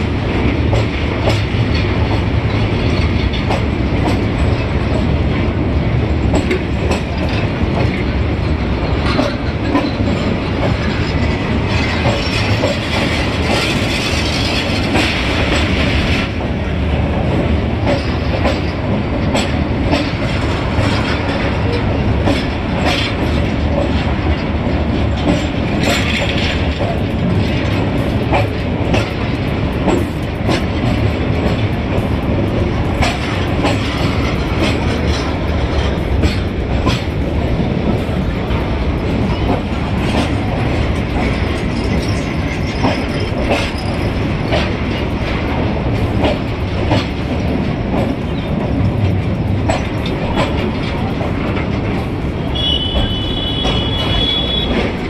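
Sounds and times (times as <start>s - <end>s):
clickety-clack of wheels: 0.0s - 55.0s
train wheel rumble: 0.0s - 55.0s.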